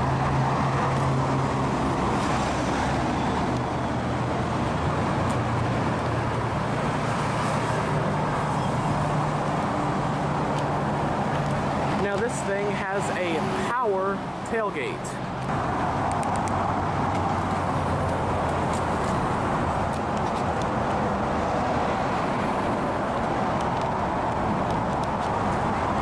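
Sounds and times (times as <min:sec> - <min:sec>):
road and traffic noise: 0:00.0 - 0:26.0
vehicle engine humming: 0:00.0 - 0:26.0.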